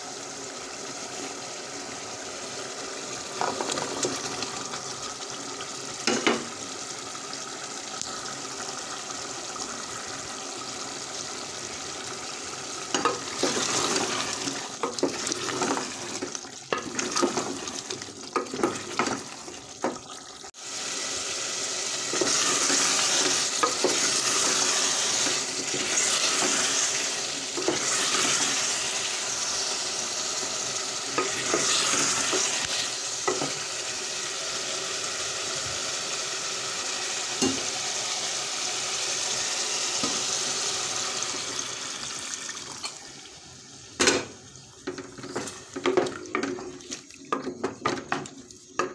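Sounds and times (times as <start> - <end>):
curry sizzling in a pot: 0.0 - 48.9.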